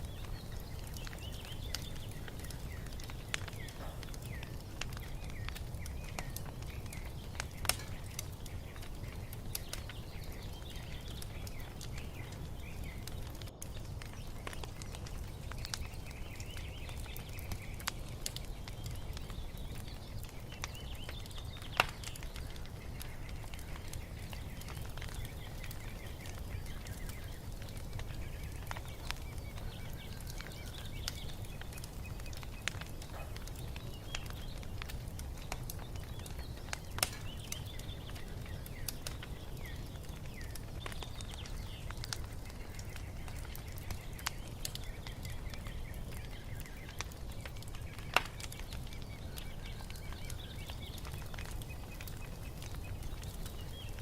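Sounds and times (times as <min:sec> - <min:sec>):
small birds chirping: 0:00.0 - 0:54.0
wood fire crackling and popping: 0:00.0 - 0:54.0.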